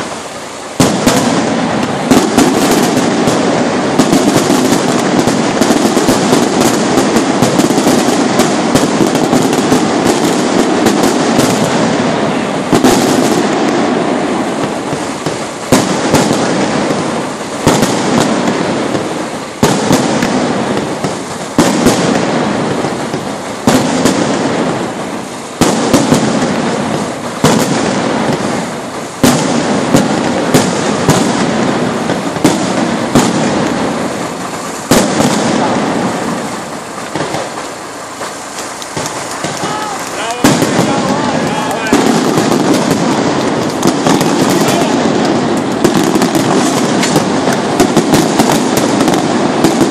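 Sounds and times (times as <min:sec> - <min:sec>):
fireworks bangs: 0:00.0 - 0:49.9
fireworks crackling: 0:00.0 - 0:49.9.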